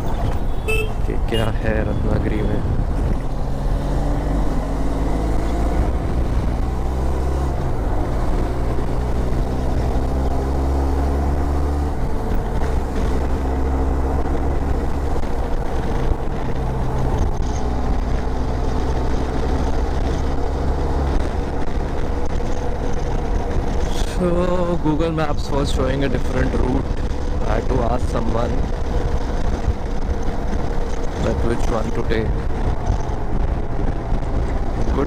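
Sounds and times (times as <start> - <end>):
wind and road noise: 0.0 - 35.0.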